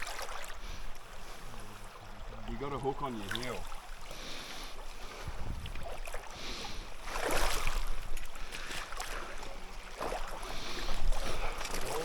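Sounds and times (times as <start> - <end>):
water splashing in river: 0.0 - 12.0.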